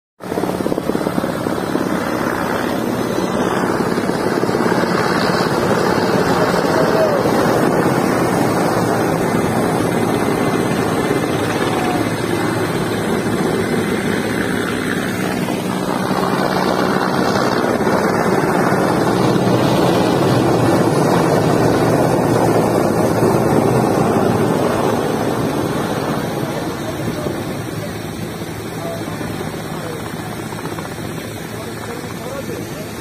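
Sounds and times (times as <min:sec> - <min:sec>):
wind buffeting microphone: 0:00.2 - 0:32.4
helicopter flying overhead: 0:00.2 - 0:33.0.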